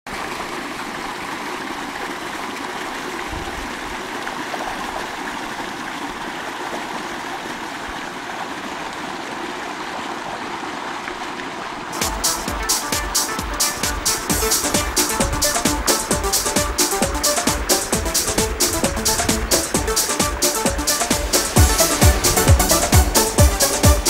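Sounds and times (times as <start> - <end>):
stream flowing over rocks: 0.1 - 24.0.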